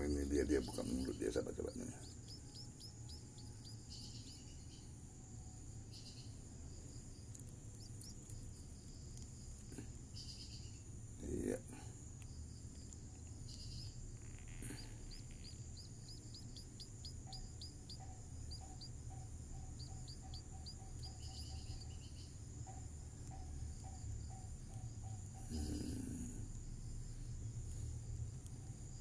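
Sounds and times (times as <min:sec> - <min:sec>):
crickets droning: 0:00.0 - 0:29.0
small birds chirping: 0:00.0 - 0:29.0.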